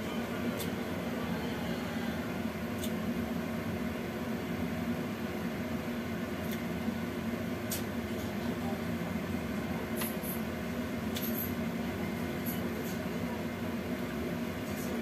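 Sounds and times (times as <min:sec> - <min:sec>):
gas stove burner hum and hiss: 0:00.0 - 0:15.0.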